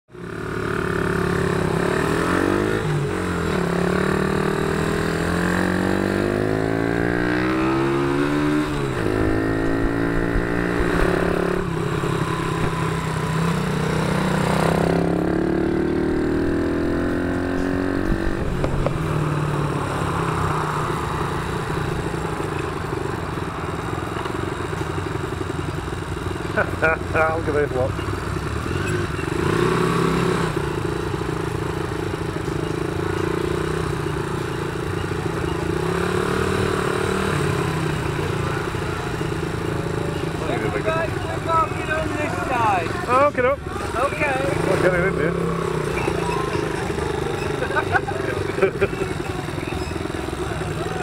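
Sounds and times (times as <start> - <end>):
motorbike engine changing gears: 1.2 - 42.2.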